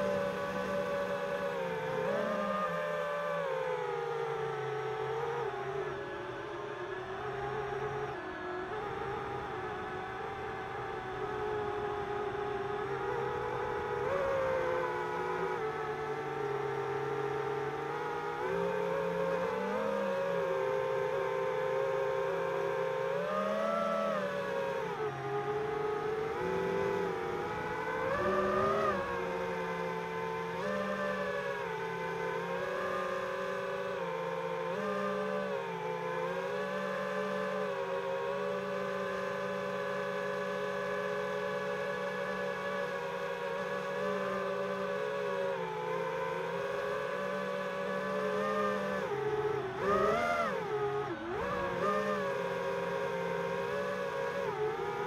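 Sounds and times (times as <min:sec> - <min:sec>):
quadcopter motors whining: 0:00.0 - 0:05.9, 0:07.2 - 0:55.0.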